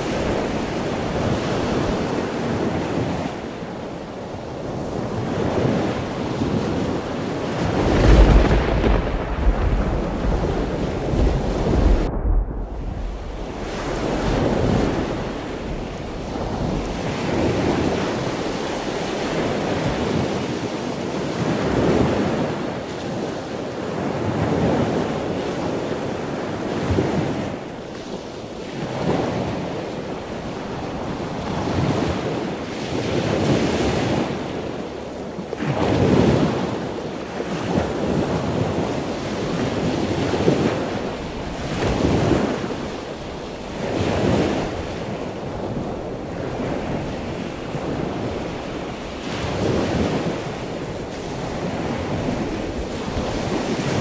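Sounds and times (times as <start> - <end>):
sea waves washing onto shore: 0.0 - 54.0
wind on microphone: 0.0 - 54.0.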